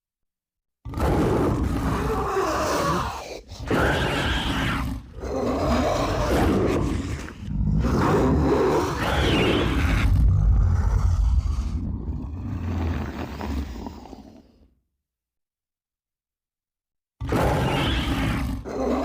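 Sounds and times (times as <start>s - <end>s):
monster growls: 0.9s - 14.7s, 17.2s - 19.0s.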